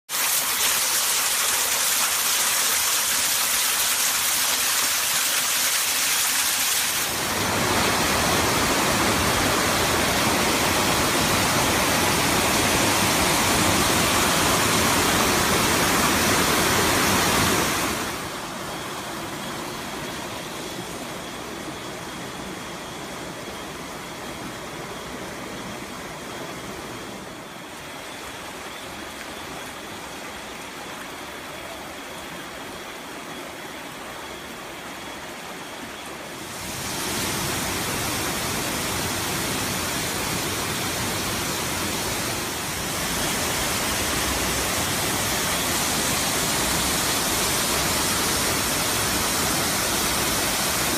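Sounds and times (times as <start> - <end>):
water rushing in mountain stream: 0.1 - 50.9
waterfall: 0.1 - 50.9.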